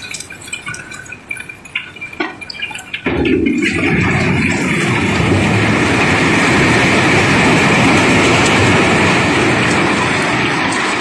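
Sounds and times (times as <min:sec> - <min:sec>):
cobblestones pouring rattle: 0:00.0 - 0:11.0.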